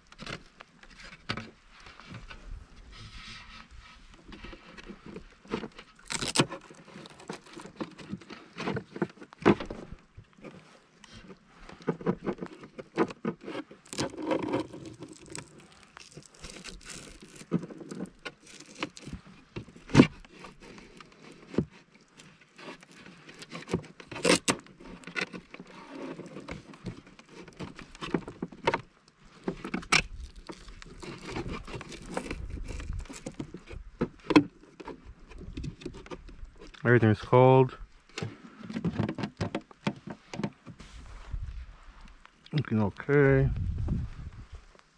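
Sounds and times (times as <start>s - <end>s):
scraping and rustling: 0.1s - 37.2s.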